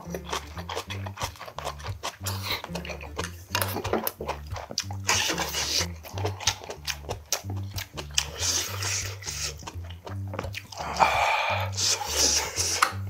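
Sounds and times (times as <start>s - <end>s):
background music with bass line: 0.0s - 13.0s
chewing and mouth clicks: 0.0s - 13.0s
rasping noise: 0.0s - 13.0s.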